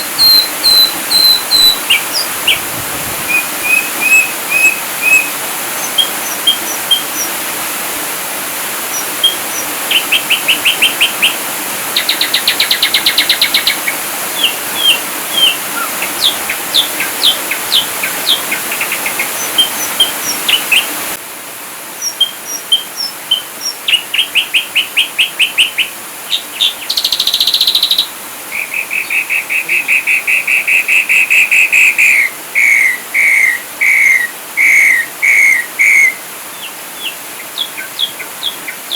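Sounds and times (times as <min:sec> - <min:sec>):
bird singing rapid varied song: 0:00.0 - 0:02.7, 0:03.3 - 0:07.5, 0:08.8 - 0:11.4, 0:12.0 - 0:21.0, 0:22.0 - 0:38.9
steady hiss: 0:00.0 - 0:38.9.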